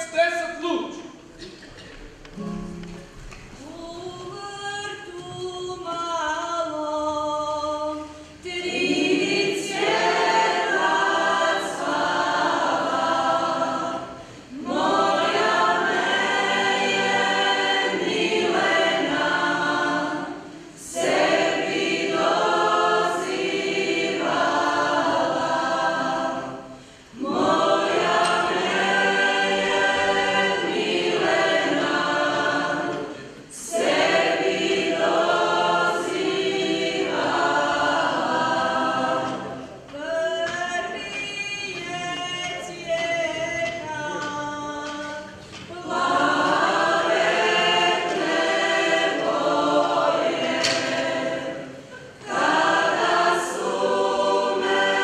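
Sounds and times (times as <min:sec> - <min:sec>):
choir singing unaccompanied: 0:03.6 - 0:55.0.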